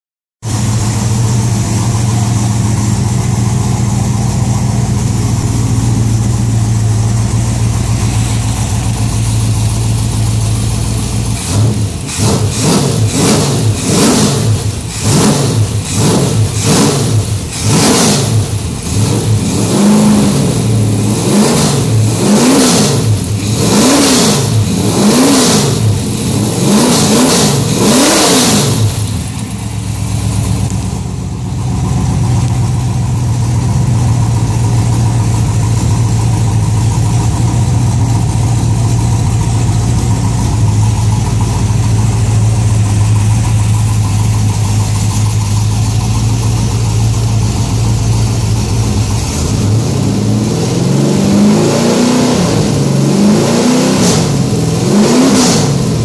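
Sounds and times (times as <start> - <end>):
car engine idling and revving: 0.4 - 56.0.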